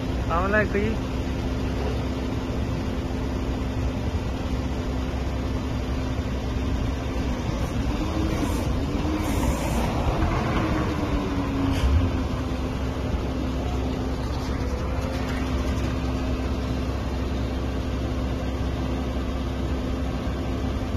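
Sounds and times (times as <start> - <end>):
diesel engine and hydraulic pump: 0.0 - 20.9.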